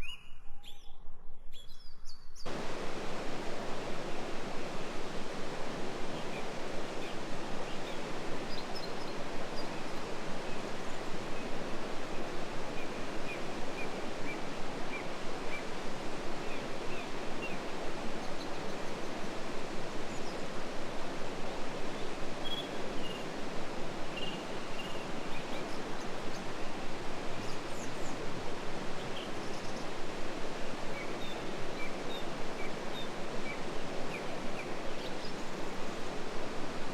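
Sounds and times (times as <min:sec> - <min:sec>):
river water rushing: 0:02.5 - 0:36.9.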